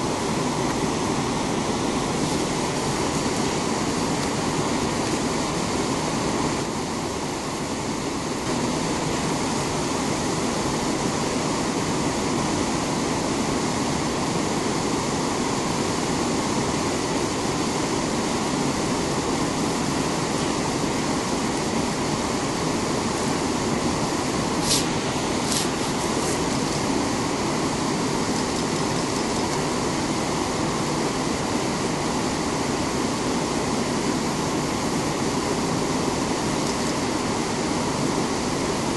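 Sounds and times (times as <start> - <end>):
waterfall and rapids roaring: 0.0 - 38.9.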